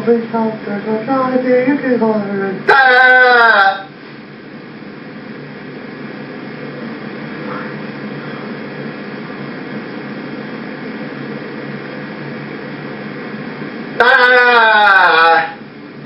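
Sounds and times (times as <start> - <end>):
droning hum with hiss: 0.0 - 16.0.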